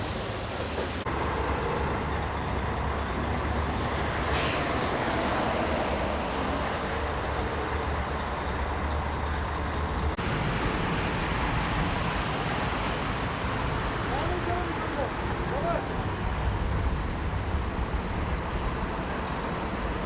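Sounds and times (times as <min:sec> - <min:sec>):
motorway traffic passing: 0:00.0 - 0:20.0.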